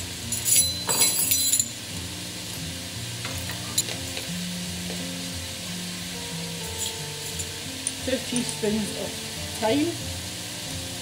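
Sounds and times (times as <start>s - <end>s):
quiet background music: 0.0s - 11.0s
vegetables sizzling in a pan: 0.0s - 11.0s.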